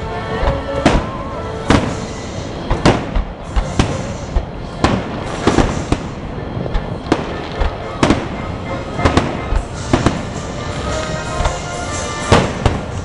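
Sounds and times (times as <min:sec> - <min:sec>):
steady background rumble: 0:00.0 - 0:13.0
fireworks bursting: 0:00.4 - 0:13.0.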